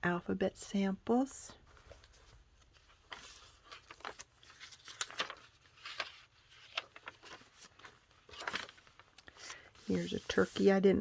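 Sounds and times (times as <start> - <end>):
paper pages rustling: 1.6 - 10.8.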